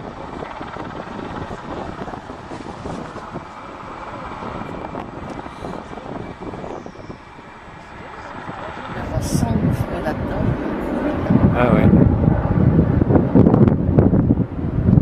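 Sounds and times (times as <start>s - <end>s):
helicopter rotor and engine: 0.0s - 15.0s
wind buffeting microphone: 0.0s - 15.0s.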